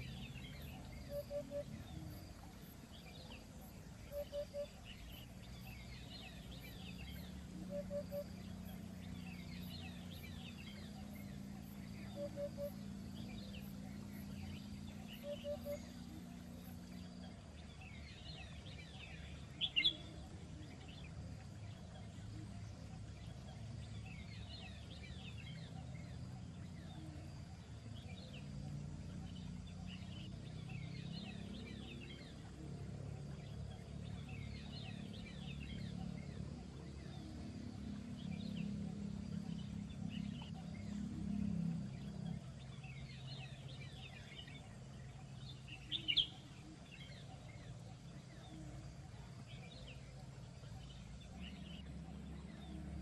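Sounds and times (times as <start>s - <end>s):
low steady rumble: 0.0s - 53.0s
small birds chirping: 0.0s - 53.0s.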